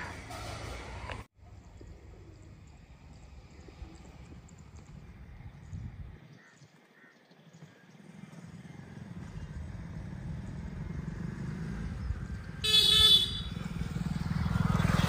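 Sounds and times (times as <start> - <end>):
vehicle rumble approaching: 0.0 - 6.2, 7.9 - 12.7, 13.4 - 15.0.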